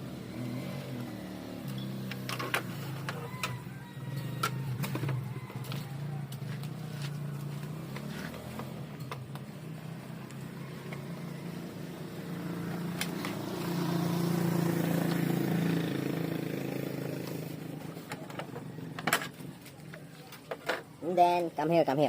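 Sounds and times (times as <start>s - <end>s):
vehicle engine passing by: 0.0s - 20.1s.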